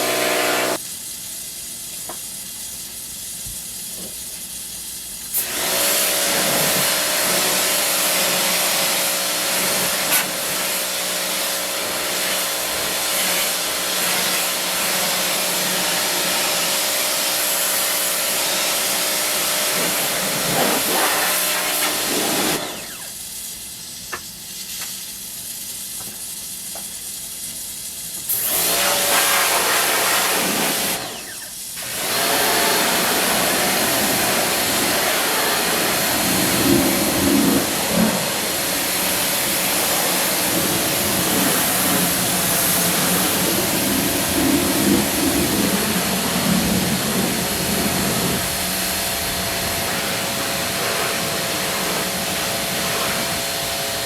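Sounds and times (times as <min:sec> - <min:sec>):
pressure washer spraying: 0:00.0 - 0:01.6, 0:02.3 - 0:54.0.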